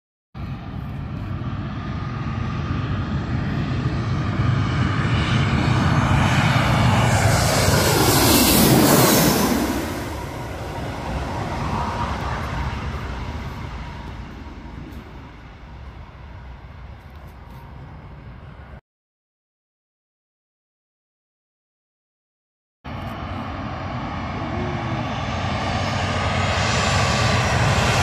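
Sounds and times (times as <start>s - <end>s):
jet airliner passing overhead: 0.4s - 18.8s, 22.9s - 28.0s.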